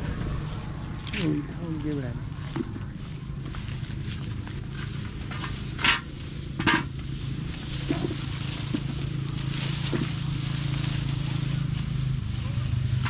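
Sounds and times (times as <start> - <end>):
steady low drone: 0.0 - 13.0.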